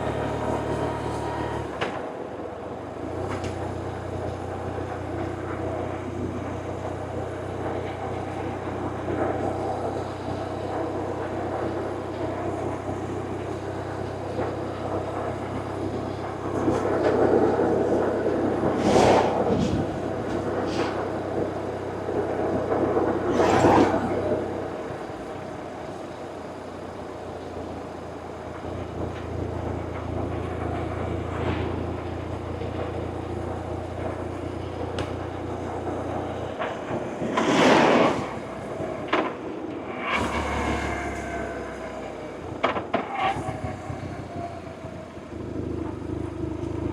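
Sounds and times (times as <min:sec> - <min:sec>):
motorcycle engine drone: 0:00.0 - 0:46.9.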